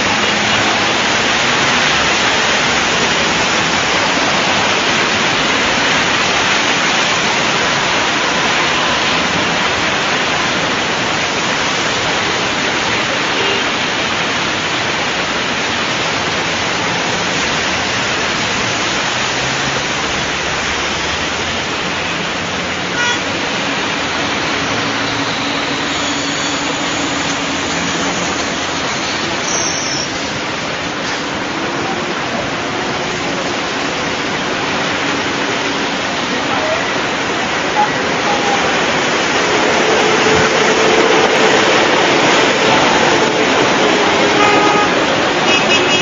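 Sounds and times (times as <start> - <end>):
floodwater and rain rushing: 0.0 - 46.0
vehicle engines running: 0.0 - 46.0.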